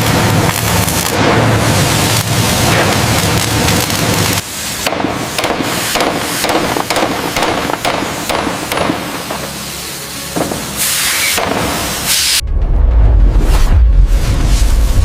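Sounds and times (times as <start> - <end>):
loud dense noise: 0.0 - 15.0.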